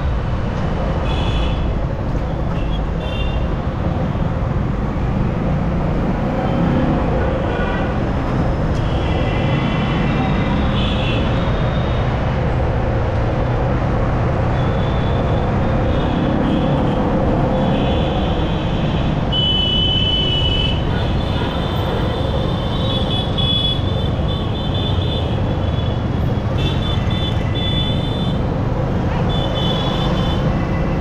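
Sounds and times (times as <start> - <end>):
wind and road noise: 0.0 - 31.0.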